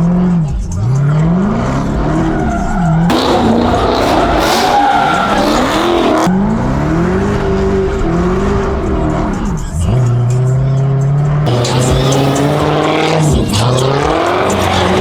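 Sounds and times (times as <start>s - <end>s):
engine revving: 0.0s - 15.0s
tires squealing: 0.0s - 15.0s.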